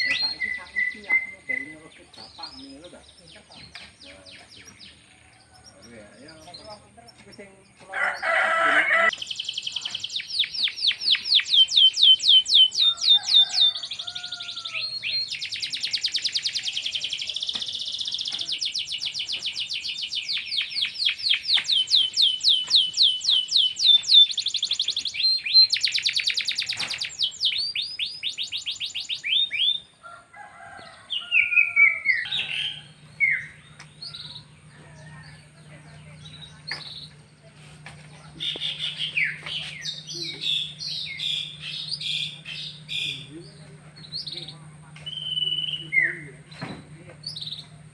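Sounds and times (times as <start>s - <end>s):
bird chirps: 0.0s - 47.9s
canaries singing trills: 0.0s - 47.9s.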